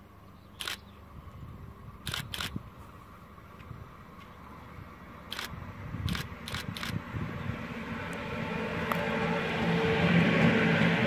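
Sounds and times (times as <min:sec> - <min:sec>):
locomotive rumble: 0:00.0 - 0:11.0.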